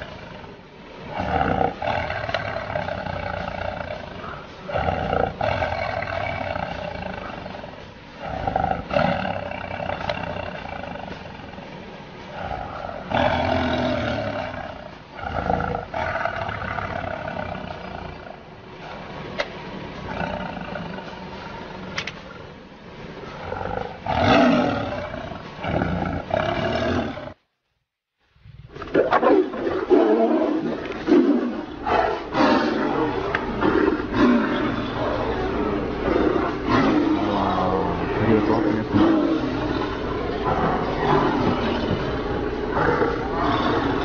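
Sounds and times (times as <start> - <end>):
big cats roaring and snarling: 0.0 - 27.4, 28.6 - 44.0.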